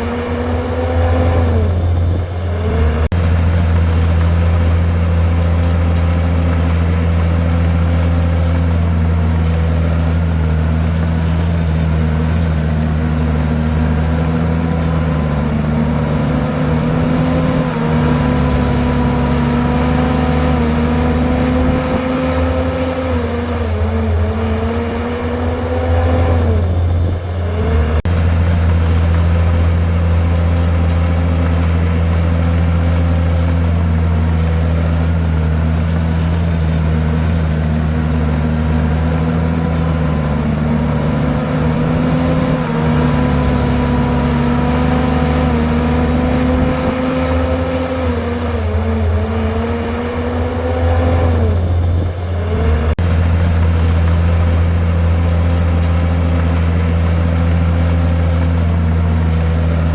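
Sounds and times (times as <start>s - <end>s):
bulldozer diesel engine running: 0.0s - 59.9s
bulldozer pushing rock and soil: 0.0s - 59.9s.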